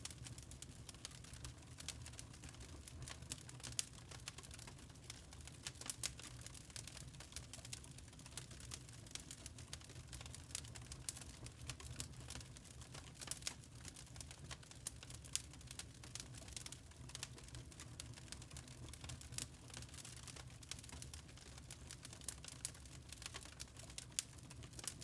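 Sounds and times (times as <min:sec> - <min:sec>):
charcoal crackling: 0:00.0 - 0:25.0.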